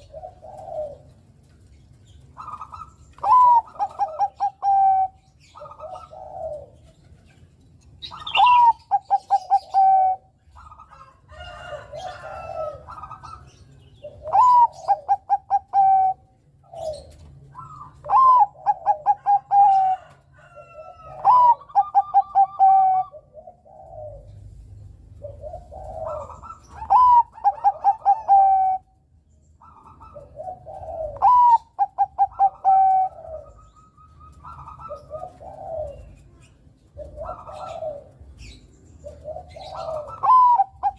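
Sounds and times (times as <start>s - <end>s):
dove cooing song: 0.0s - 40.9s.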